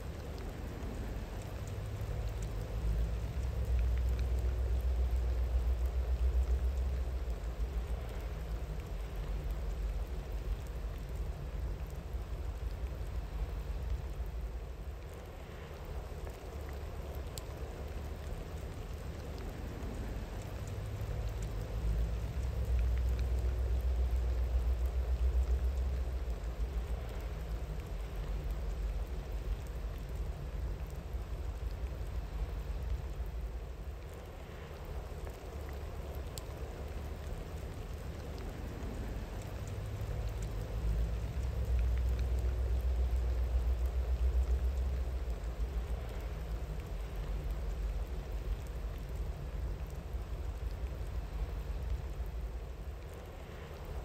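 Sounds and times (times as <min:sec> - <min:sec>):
rain falling: 0:00.0 - 0:54.0
raindrop ticks: 0:00.0 - 0:54.0.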